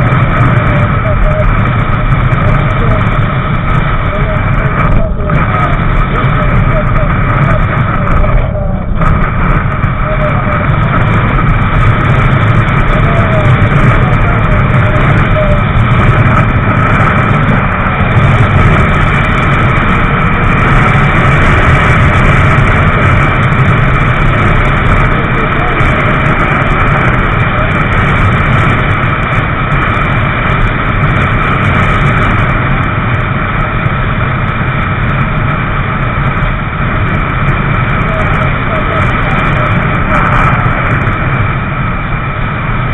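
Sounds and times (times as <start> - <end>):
motorcycle engine drone: 0.0 - 42.9
wind rush on microphone: 0.0 - 42.9.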